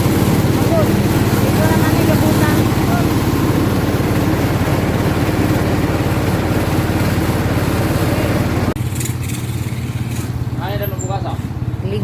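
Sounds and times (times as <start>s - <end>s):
machinery engine chugging: 0.0s - 12.0s.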